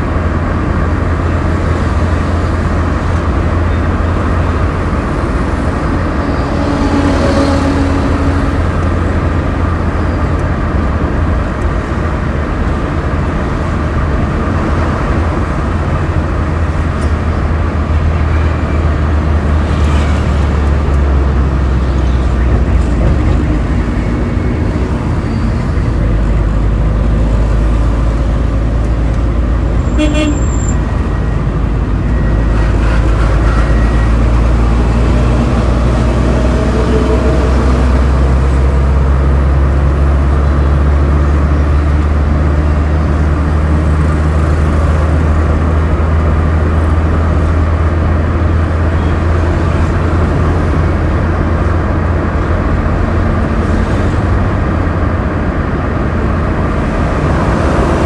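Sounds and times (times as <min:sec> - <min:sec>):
traffic rushing: 0:00.0 - 0:58.0
vehicle engine drone: 0:00.0 - 0:58.0.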